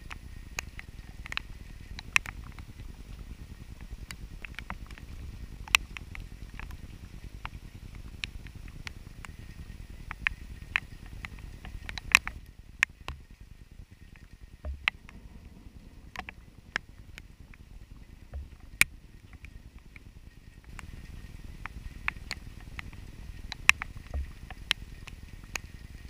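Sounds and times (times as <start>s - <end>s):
low rumble: 0.0s - 26.0s
raindrops tapping camera: 0.0s - 26.0s.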